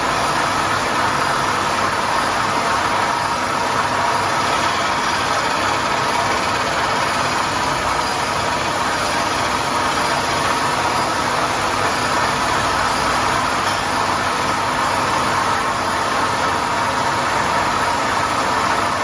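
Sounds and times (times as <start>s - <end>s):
grinding machine running: 0.1s - 19.0s.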